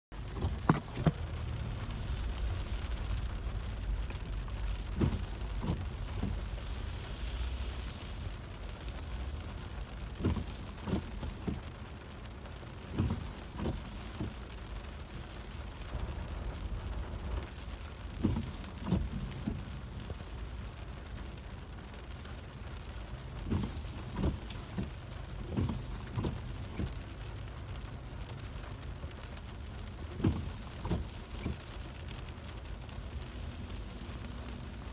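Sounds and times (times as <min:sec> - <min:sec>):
rain on car roof: 0:00.1 - 0:34.9.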